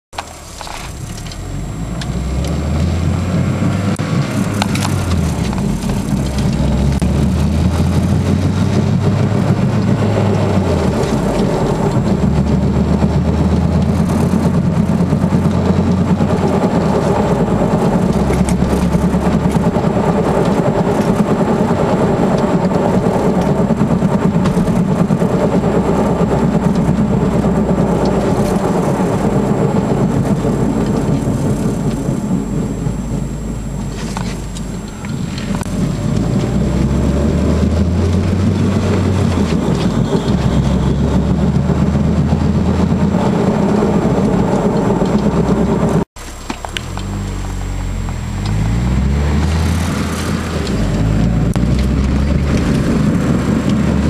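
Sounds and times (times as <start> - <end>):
road rumble: 0.1 - 54.0
wheel bearing drone: 0.1 - 54.0.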